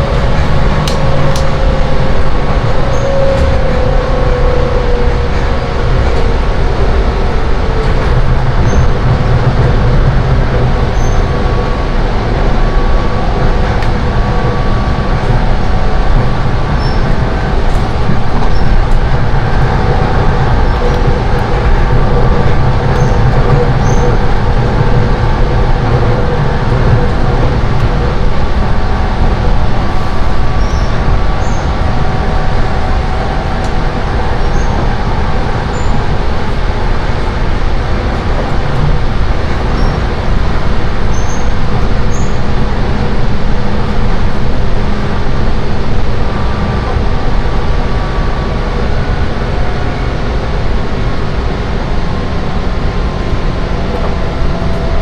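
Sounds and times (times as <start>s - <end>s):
train wheels rumbling on rail: 0.0s - 55.0s
faint whining tones: 10.4s - 55.0s.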